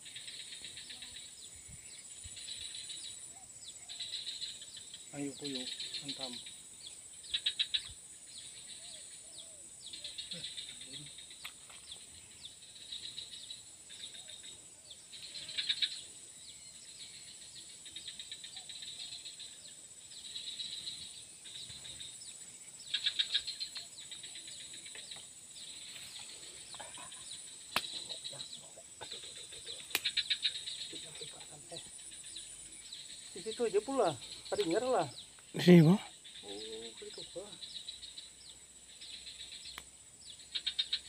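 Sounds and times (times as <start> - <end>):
steady high insect buzz: 0.0 - 41.0.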